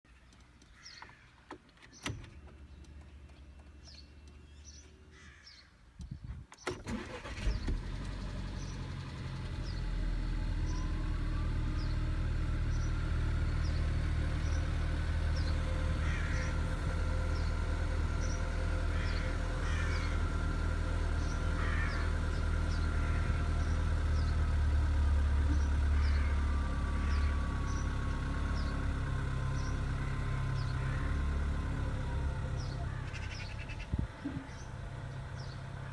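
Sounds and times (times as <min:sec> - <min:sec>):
car engine starting and idling: 0:01.5 - 0:05.4, 0:06.6 - 0:35.9.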